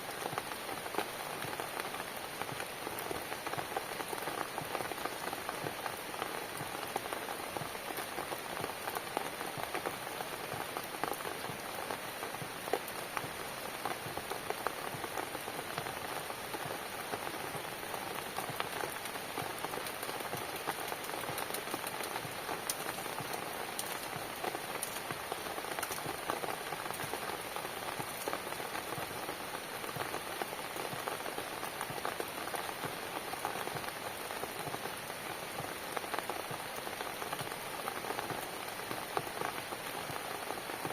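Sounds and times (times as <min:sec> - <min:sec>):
rain on cabin: 0:00.0 - 0:40.9.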